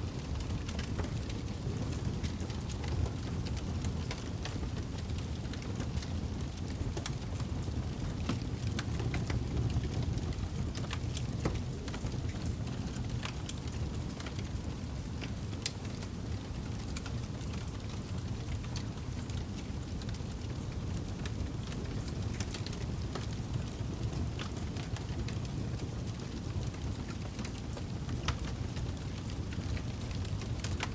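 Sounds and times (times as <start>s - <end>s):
low fire rumble: 0.0s - 30.9s
campfire crackling and popping: 0.2s - 30.9s.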